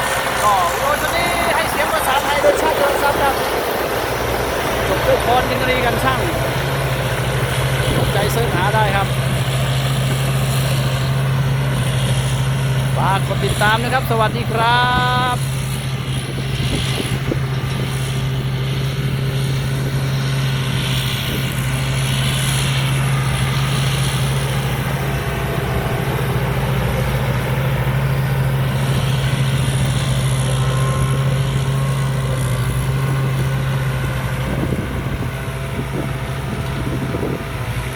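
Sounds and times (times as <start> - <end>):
combine harvester engine running: 0.0 - 37.9.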